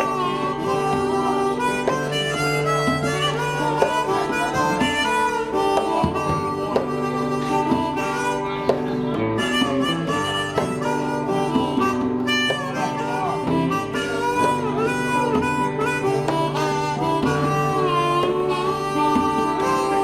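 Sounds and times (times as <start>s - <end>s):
bass guitar: 0.0s - 20.0s
harmonica solo: 0.0s - 20.0s
strummed guitar: 0.0s - 20.0s.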